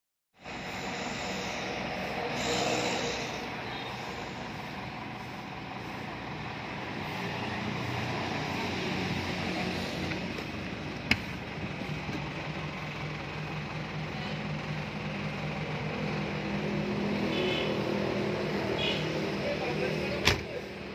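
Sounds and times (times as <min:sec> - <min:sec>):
engine idling: 0:00.4 - 0:20.9
road traffic passing: 0:00.4 - 0:20.9.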